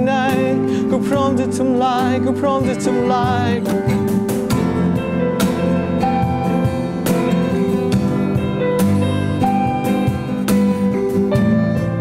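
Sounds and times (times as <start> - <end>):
acoustic guitar: 0.0 - 12.0
held keyboard notes: 0.0 - 12.0
cajon hits: 2.0 - 12.0.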